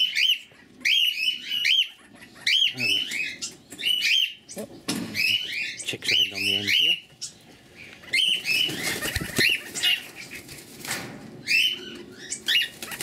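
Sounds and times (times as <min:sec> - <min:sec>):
cockatiels chirping: 0:00.0 - 0:10.6, 0:11.4 - 0:13.0.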